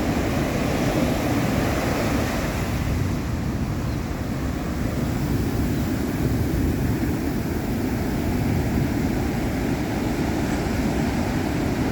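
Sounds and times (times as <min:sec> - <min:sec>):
ocean surf washing: 0:00.0 - 0:11.9.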